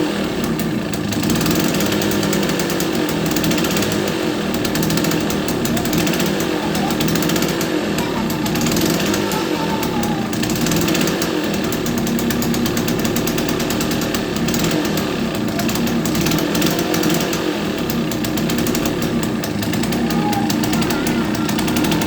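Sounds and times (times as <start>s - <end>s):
two-stroke engine puttering: 0.0s - 22.0s.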